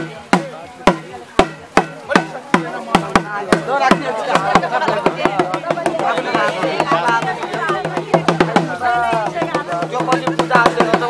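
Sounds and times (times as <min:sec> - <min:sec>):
drum beaten in steady rhythm: 0:00.0 - 0:11.0
people's voices: 0:00.0 - 0:11.0.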